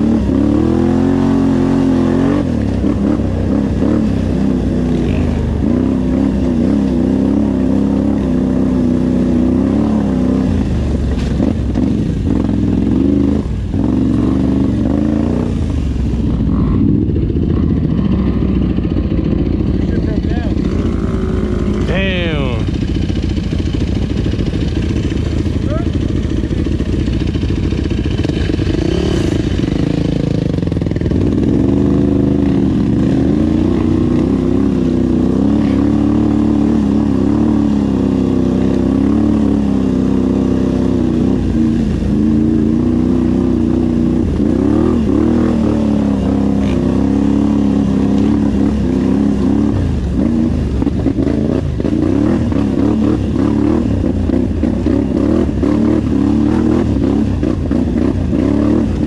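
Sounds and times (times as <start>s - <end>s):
off-road vehicle engine: 0.0s - 59.0s.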